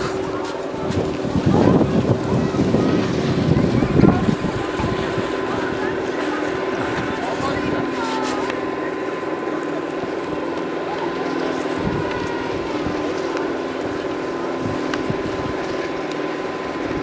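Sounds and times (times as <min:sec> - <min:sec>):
steady motor drone: 0:00.0 - 0:17.0.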